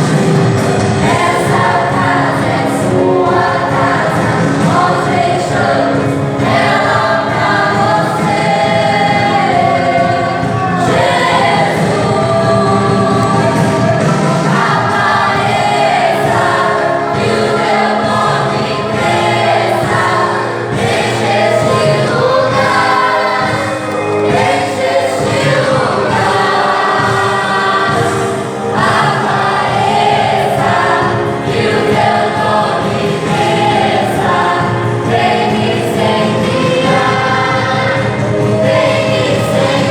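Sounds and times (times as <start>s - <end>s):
group singing worship song: 0.0s - 39.9s
instrumental backing: 0.0s - 39.9s.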